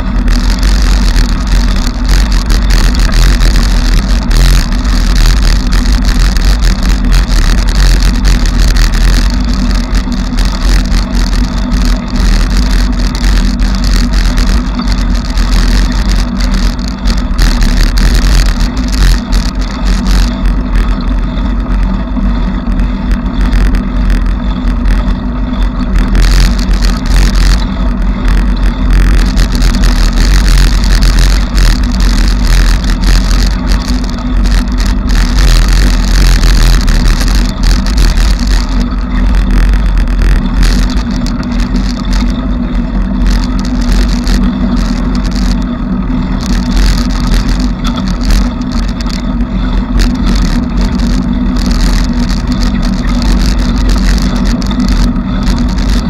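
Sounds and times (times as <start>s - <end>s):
bicycle riding rumble: 0.0s - 56.0s
bike rattling and clatter: 0.0s - 56.0s.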